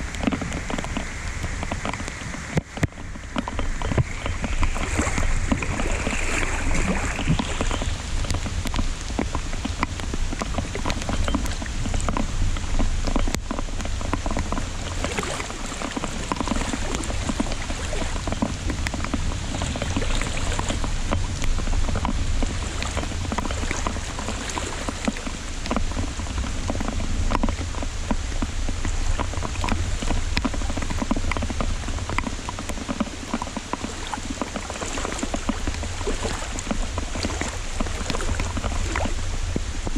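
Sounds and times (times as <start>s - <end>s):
heavy rain patter: 0.0s - 39.9s.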